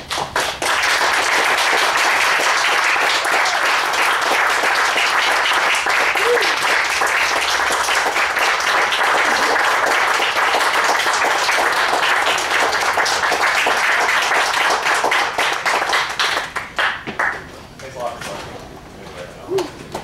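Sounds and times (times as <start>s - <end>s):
audience applauding: 0.0s - 17.5s.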